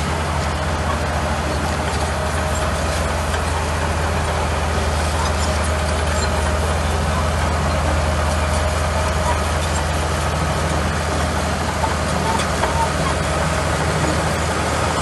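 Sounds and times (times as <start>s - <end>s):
bulldozer diesel engine under load: 0.0s - 15.0s.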